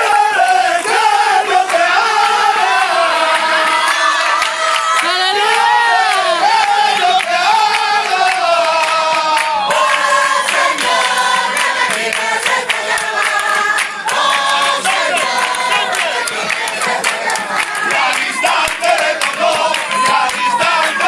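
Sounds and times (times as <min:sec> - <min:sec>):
group singing a worship song: 0:00.0 - 0:21.0
hands clapping: 0:00.0 - 0:21.0.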